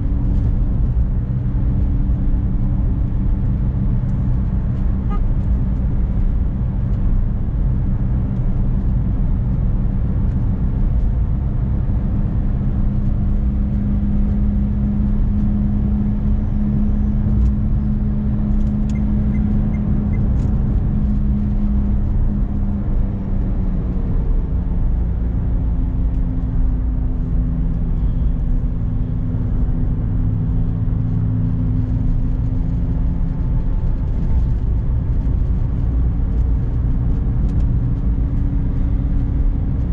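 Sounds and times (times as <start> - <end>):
car engine running: 0.0 - 39.9
tyre and road rumble: 0.0 - 39.9.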